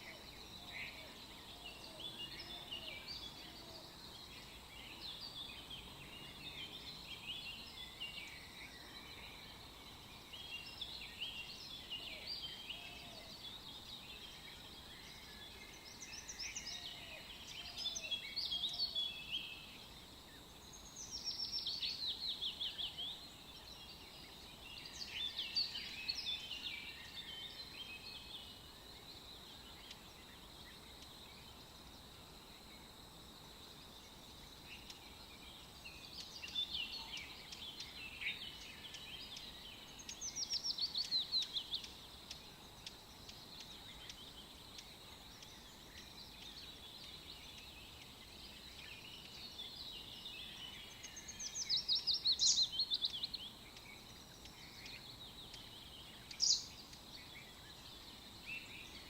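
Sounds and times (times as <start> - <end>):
faint steady hiss: 0.0 - 59.0
small birds chirping: 0.0 - 59.0.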